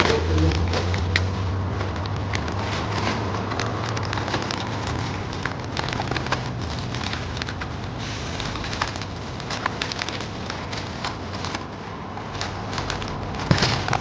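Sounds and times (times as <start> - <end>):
crackly chewing of food: 0.0 - 14.0.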